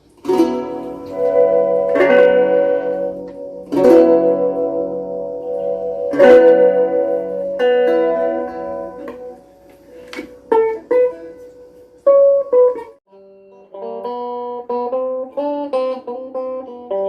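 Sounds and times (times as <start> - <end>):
guitar plucked notes: 0.0 - 17.0.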